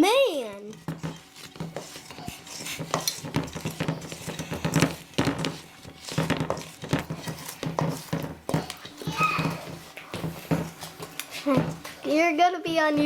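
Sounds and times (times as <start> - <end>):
spoon stirring batter in bowl: 0.0 - 13.0.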